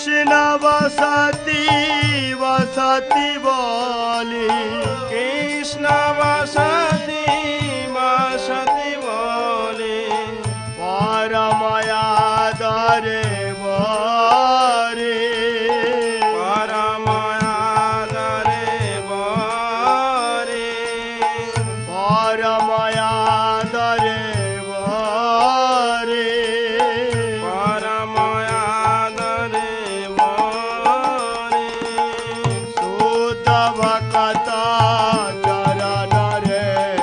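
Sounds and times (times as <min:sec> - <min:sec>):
person singing with vibrato: 0:00.0 - 0:37.0.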